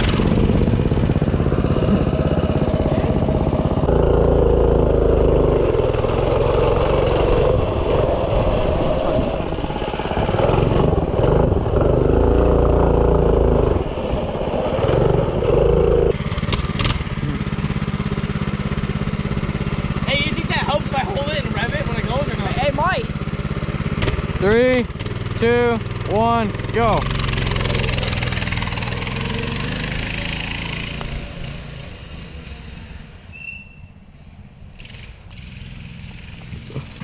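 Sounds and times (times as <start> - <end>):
minibike engine revving: 0.0 - 33.4, 34.7 - 37.0.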